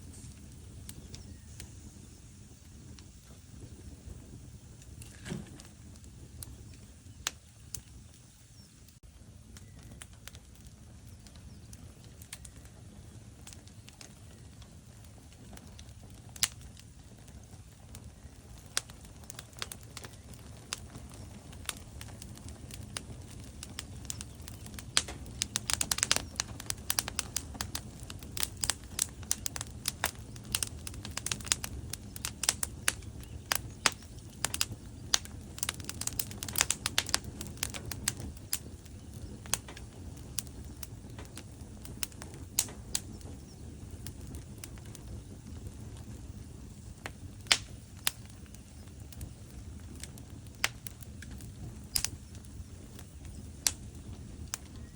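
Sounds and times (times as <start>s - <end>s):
burning logs popping: 0.0s - 54.9s
flame rushing: 0.0s - 54.9s.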